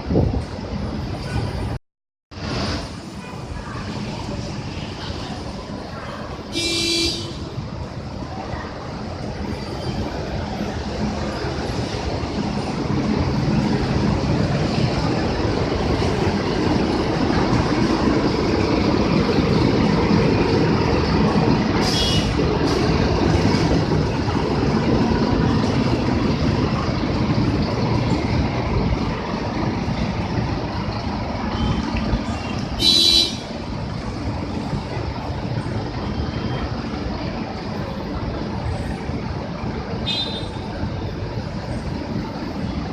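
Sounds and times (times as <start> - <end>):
buses passing: 0.0 - 42.9.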